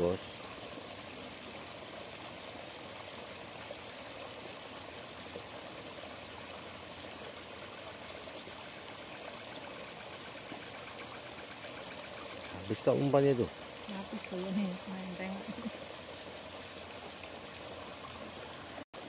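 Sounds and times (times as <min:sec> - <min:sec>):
water trickling over rocks: 0:00.0 - 0:19.0.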